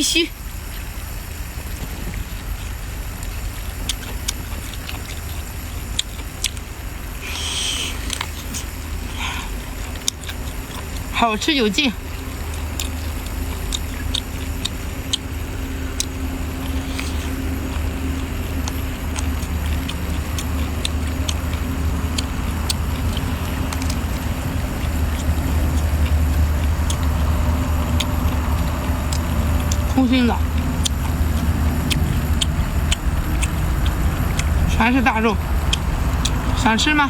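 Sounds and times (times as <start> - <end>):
hum: 0.0 - 37.0
low rumble: 0.0 - 37.0
person chewing: 1.9 - 11.2, 12.0 - 36.6.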